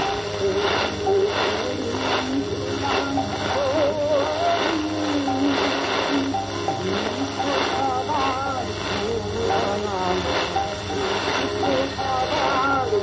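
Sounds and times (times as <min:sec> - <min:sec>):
held accompanying tones: 0:00.0 - 0:13.0
person singing with vibrato: 0:00.0 - 0:13.0
shortwave static hiss: 0:00.0 - 0:13.0.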